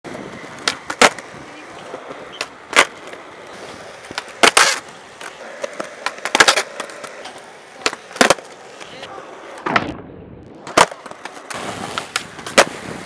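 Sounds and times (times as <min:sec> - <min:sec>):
skateboard wheels rolling on concrete: 0:00.0 - 0:13.0
skateboard popping and landing: 0:00.1 - 0:13.0.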